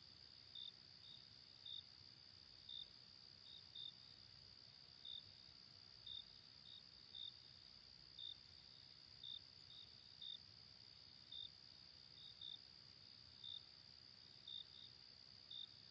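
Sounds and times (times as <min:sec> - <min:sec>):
insect chirps: 0:00.0 - 0:15.9
insect hum: 0:00.0 - 0:15.9.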